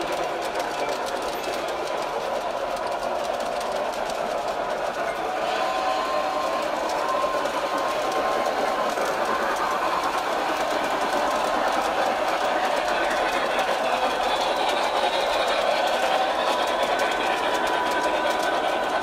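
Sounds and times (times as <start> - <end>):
model train motor whirring: 0.0 - 19.0
wheels clicking over rail joints: 0.0 - 19.0.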